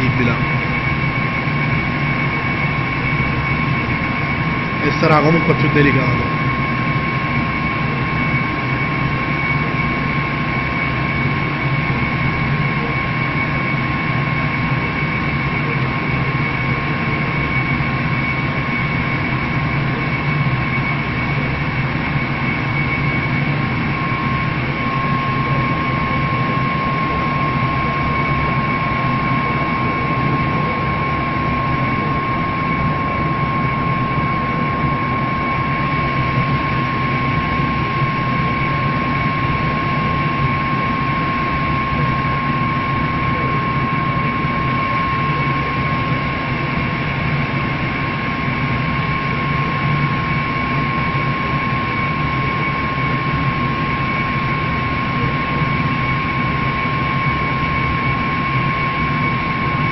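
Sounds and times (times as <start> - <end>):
laser engraving machine drone: 0.0 - 59.9.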